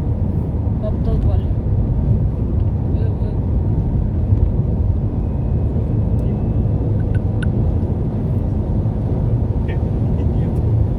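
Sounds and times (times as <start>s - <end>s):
car road and engine rumble: 0.0s - 10.9s.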